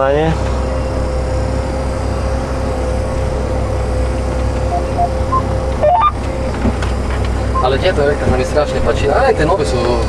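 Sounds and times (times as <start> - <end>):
tractor diesel engine droning: 0.5 - 10.0.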